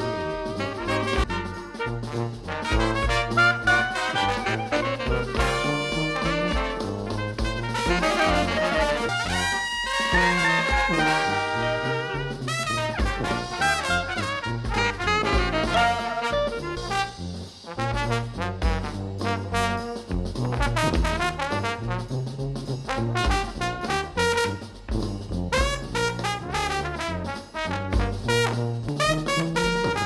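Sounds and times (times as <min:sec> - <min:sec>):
upbeat brass jazz tune: 0:00.0 - 0:30.0.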